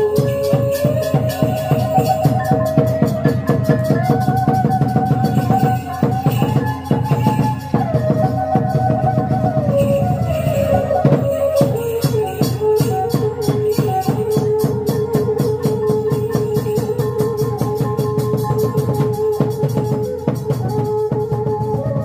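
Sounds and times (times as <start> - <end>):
fast drum and cymbal strokes: 0.0 - 22.0
held melody line: 0.0 - 22.0.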